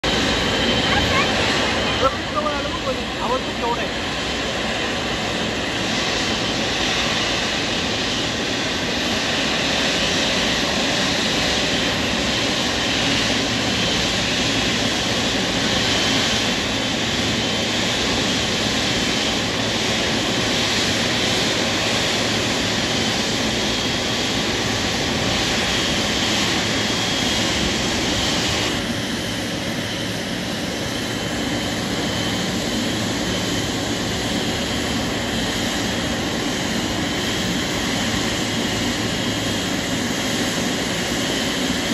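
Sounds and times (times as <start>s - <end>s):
jet engines idling with whine: 0.0s - 41.9s.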